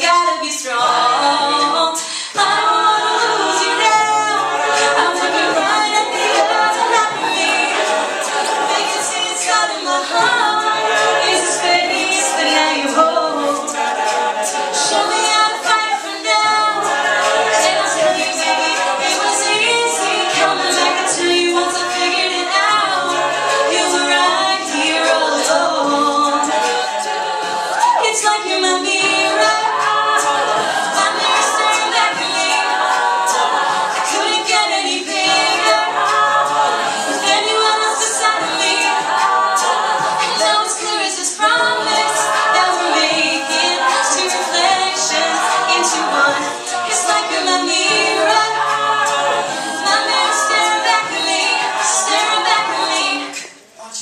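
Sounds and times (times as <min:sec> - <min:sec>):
a cappella group singing: 0:00.0 - 0:54.0.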